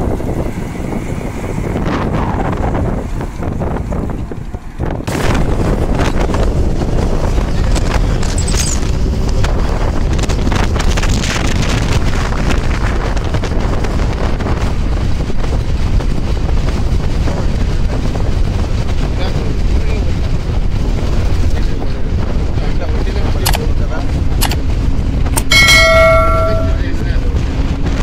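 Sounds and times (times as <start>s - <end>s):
bus rumbling: 0.0s - 28.0s
wind buffeting microphone: 0.0s - 28.0s.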